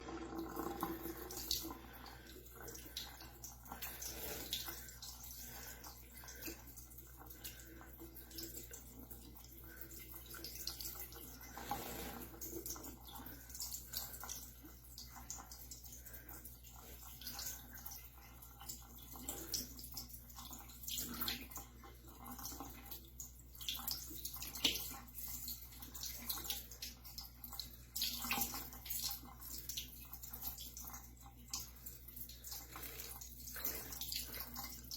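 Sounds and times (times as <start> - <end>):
running water splashing: 0.0 - 34.9
small splashes and drips: 0.0 - 34.9.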